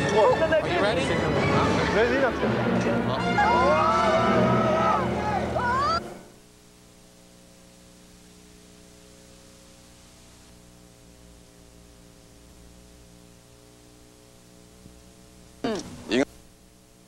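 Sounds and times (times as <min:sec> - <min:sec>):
mains hum and tape hiss: 0:00.0 - 0:17.0.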